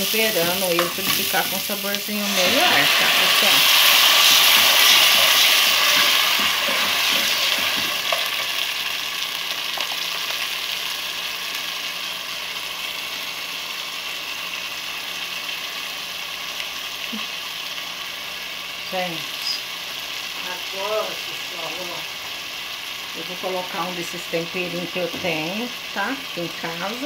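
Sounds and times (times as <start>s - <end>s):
sauce sizzling in pan: 0.0s - 27.0s.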